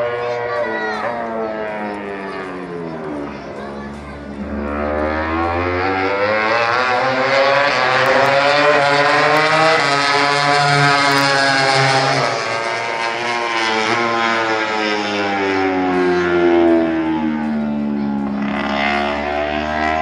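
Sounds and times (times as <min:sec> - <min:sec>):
racing motorcycle engine passing: 0:00.0 - 0:20.0.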